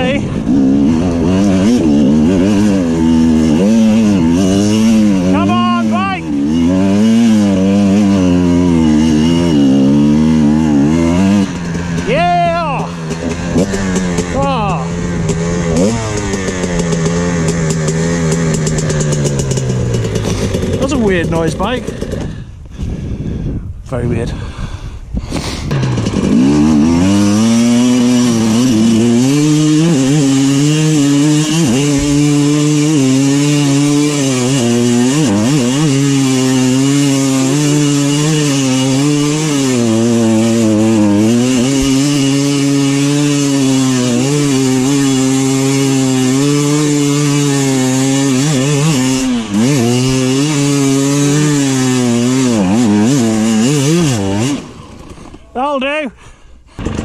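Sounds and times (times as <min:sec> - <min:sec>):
dirt bike engine revving: 0:00.0 - 0:22.6, 0:25.5 - 0:56.1, 0:56.7 - 0:57.0.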